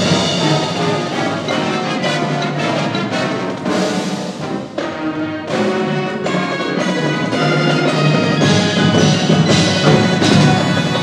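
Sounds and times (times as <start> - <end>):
brass chords: 0.0 - 11.0
keyboard percussion: 0.0 - 11.0
marching band playing: 0.0 - 11.0
timpani: 0.0 - 11.0.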